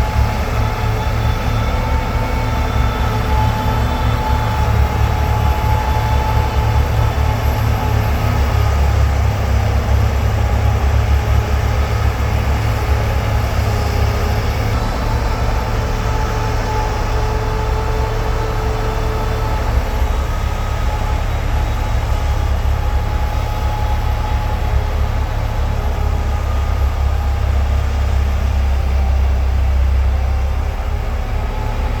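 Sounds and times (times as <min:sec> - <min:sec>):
heavy vehicle engine rumbling: 0:00.0 - 0:32.0.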